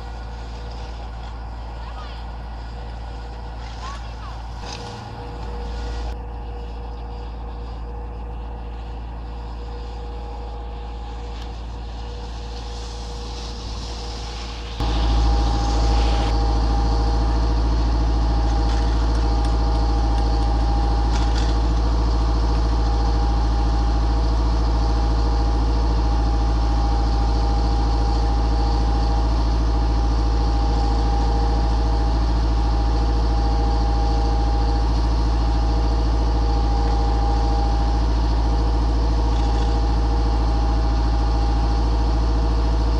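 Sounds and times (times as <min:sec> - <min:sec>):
diesel engine droning: 0:00.0 - 0:42.9
ski lift steady whine: 0:00.0 - 0:42.9.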